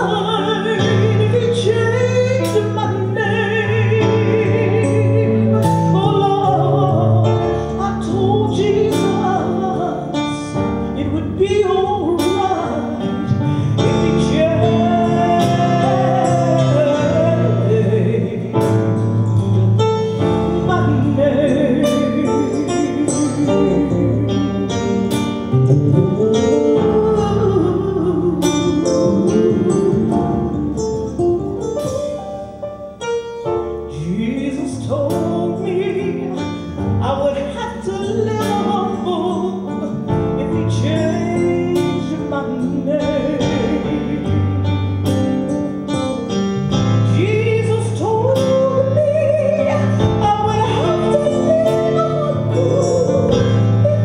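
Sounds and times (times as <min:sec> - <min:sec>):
woman singing with vibrato: 0:00.0 - 0:19.1, 0:20.1 - 0:31.2, 0:33.8 - 0:45.9, 0:47.0 - 0:54.0
low bass notes: 0:00.0 - 0:54.0.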